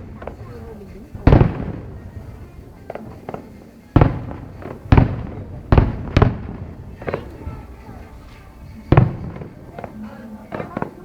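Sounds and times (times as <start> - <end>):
faint fireworks pops: 0.0 - 11.0
fireworks booming with echo: 0.0 - 11.0.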